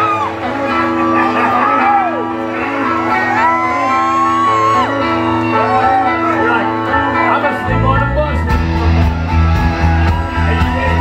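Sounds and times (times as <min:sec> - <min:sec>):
people shouting and whooping: 0:00.0 - 0:07.6, 0:08.8 - 0:11.0
electric guitar bending high notes: 0:00.0 - 0:11.0
live rock band playing: 0:00.0 - 0:11.0.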